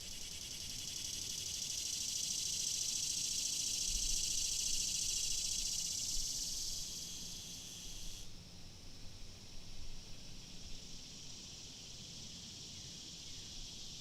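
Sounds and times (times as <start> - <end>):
cicadas buzzing: 0.0 - 8.3, 9.9 - 14.0.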